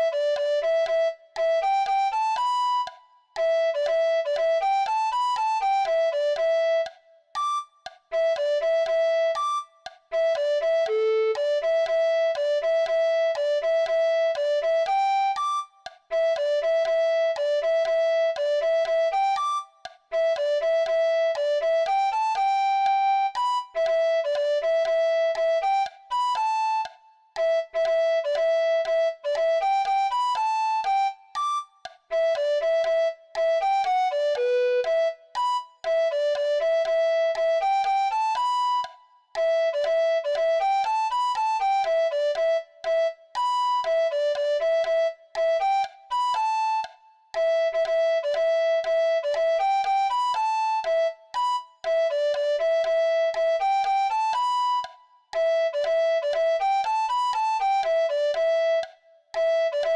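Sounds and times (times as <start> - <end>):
recorder playing a melody: 0.0 - 59.9.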